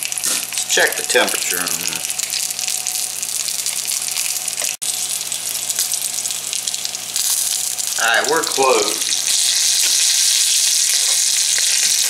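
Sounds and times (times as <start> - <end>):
steak sizzling in hot oil: 0.0 - 12.0.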